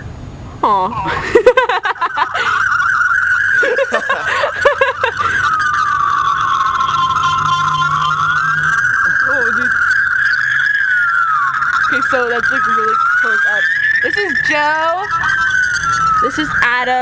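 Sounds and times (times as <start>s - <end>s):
warbling vocal noises through phones: 0.9s - 17.0s
high whistling feedback tone: 1.2s - 17.0s.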